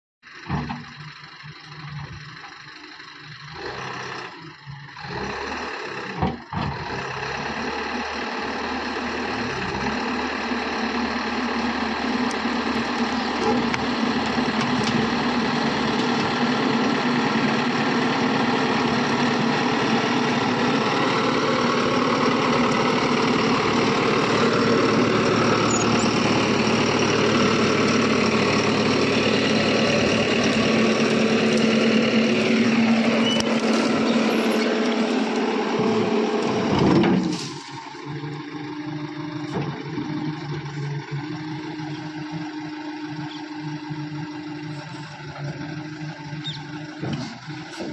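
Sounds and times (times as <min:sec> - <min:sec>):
diesel engine running: 0:00.2 - 0:47.9
loader bucket pushing soil: 0:03.4 - 0:47.9.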